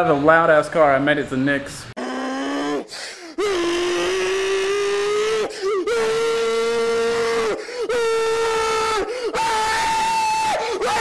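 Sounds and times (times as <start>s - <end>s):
man screaming: 2.0s - 11.0s.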